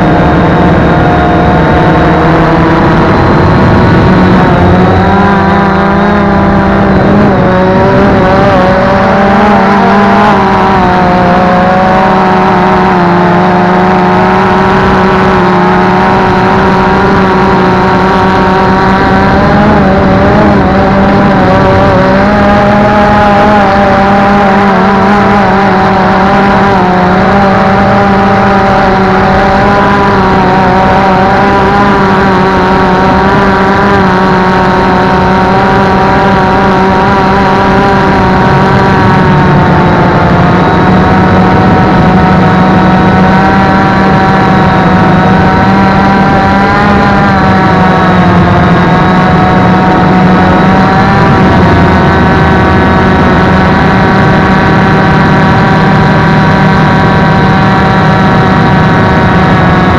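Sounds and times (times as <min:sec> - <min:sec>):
drone motors buzzing: 0:00.0 - 0:59.9.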